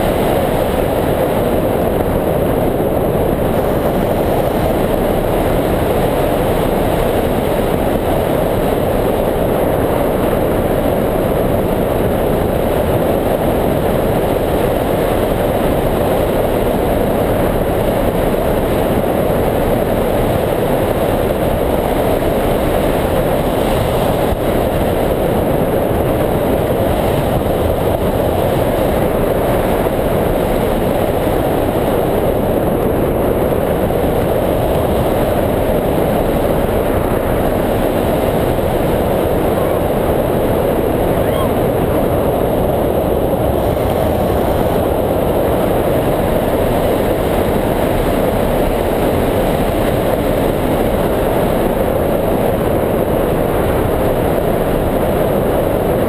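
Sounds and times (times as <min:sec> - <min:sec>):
wind roaring over microphone: 0:00.0 - 0:56.0.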